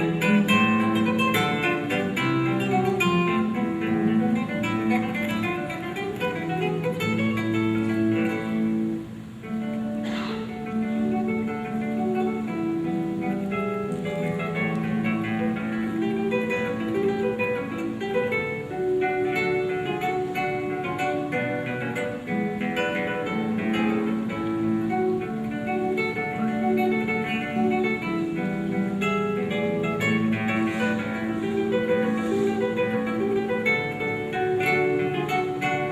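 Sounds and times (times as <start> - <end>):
acoustic guitar instrumental: 0.0 - 35.9.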